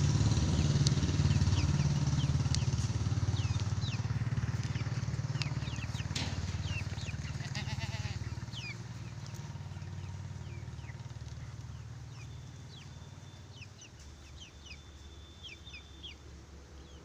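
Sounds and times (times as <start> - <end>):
low steady rumble: 0.0 - 17.0
small birds chirping: 0.0 - 17.0.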